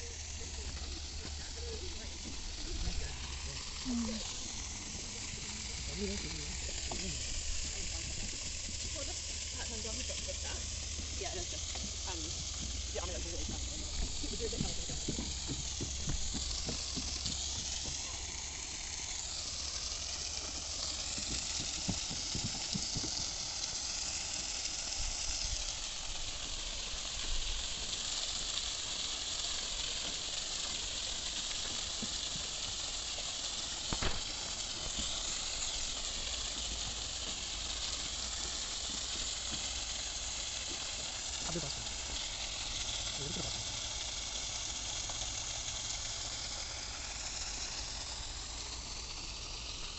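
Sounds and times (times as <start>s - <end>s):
high outdoor hiss: 0.0s - 49.9s.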